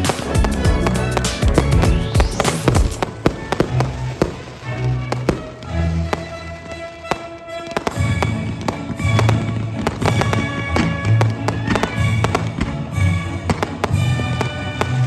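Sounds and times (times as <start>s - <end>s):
background music: 0.0s - 15.0s
fireworks bangs and crackles: 0.0s - 15.0s.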